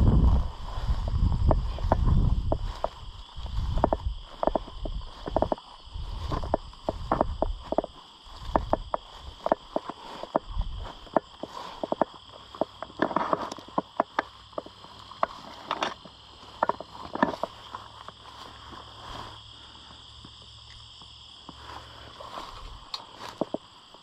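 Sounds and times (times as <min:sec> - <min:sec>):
footsteps through dry weeds: 0:00.0 - 0:20.1, 0:21.4 - 0:24.0
insects chirring: 0:00.0 - 0:24.0.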